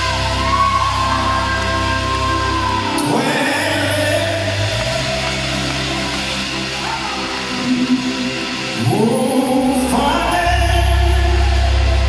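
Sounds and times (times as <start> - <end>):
person singing: 0.0 - 7.5, 8.7 - 12.0
worship band music with guitar: 0.0 - 12.0.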